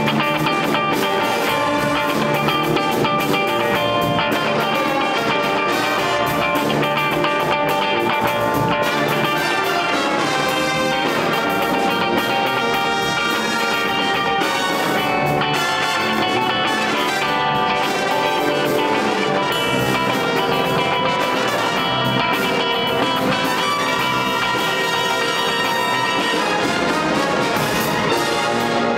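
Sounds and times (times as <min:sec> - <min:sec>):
electric guitar: 0:00.0 - 0:28.9
jazz band playing funk: 0:00.0 - 0:28.9.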